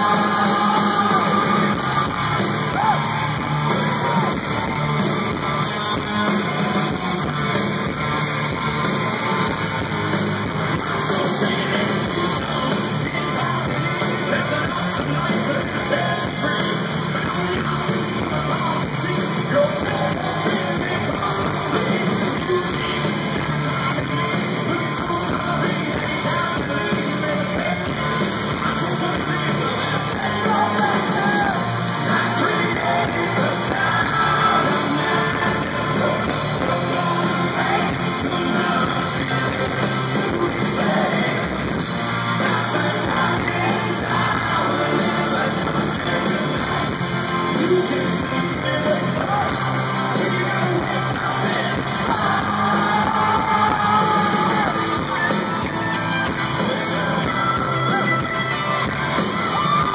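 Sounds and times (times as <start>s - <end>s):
person singing: 0.0s - 4.7s, 10.7s - 59.9s
rock band playing live: 0.0s - 59.9s.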